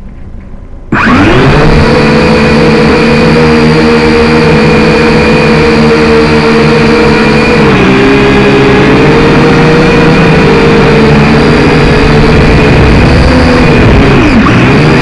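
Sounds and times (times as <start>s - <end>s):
drone motors whining: 0.8s - 15.0s.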